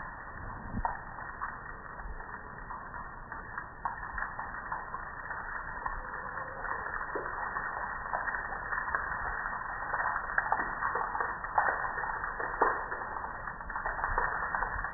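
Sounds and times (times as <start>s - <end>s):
water dripping onto concrete: 0.0s - 14.9s.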